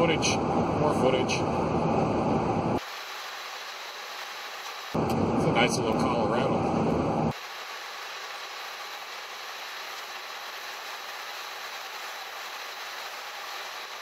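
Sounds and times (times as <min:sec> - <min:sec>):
road noise hiss inside vehicle: 0:00.0 - 0:14.0.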